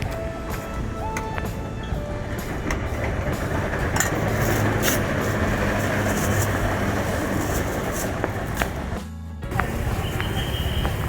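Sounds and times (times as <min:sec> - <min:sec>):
street traffic noise: 0:00.0 - 0:11.0
vehicle engine running close by: 0:01.4 - 0:11.0.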